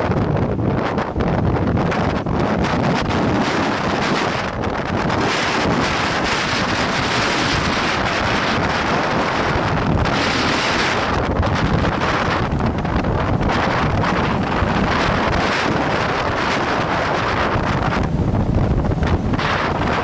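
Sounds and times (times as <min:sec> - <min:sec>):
choppy sea wash: 0:00.0 - 0:20.0
wind buffeting microphone: 0:00.0 - 0:20.0.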